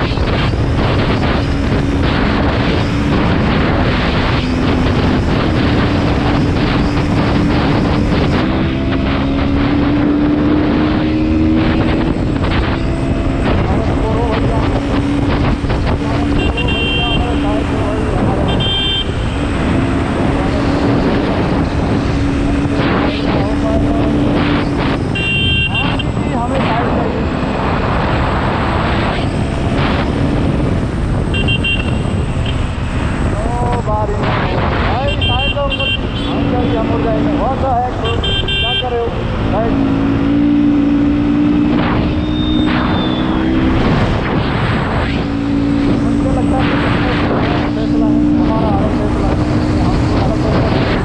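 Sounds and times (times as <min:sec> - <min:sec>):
heavy wind noise: 0:00.0 - 0:51.0
motorcycle engine hum: 0:00.0 - 0:51.0.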